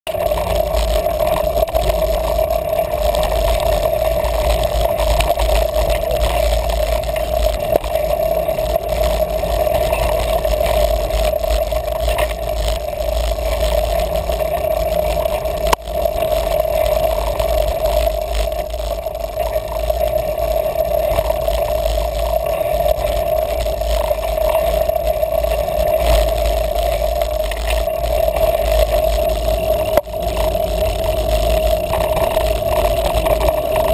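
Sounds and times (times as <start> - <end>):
wind and tyres rumbling on trail: 0.0 - 33.9
bike rattling and clicking: 0.1 - 33.9
constant hum: 0.1 - 33.9.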